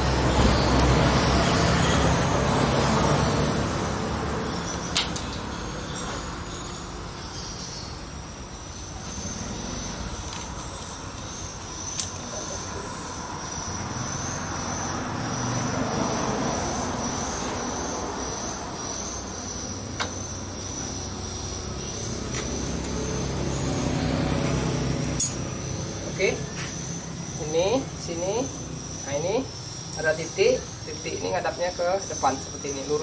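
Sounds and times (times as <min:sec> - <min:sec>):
high insect trill: 0:00.0 - 0:33.0
vehicle engine drone: 0:00.0 - 0:33.0.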